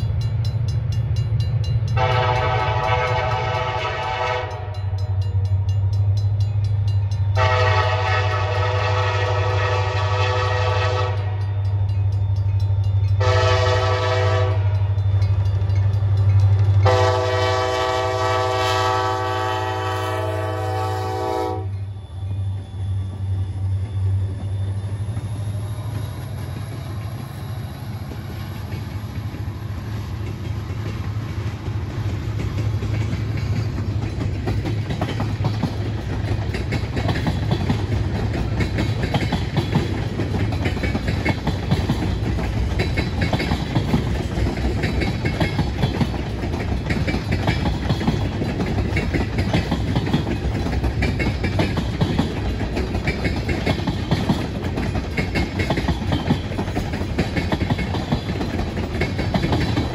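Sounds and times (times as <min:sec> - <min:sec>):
diesel locomotive engine hum: 0:00.0 - 0:59.9
train wheels clacking on rails: 0:00.0 - 0:59.9.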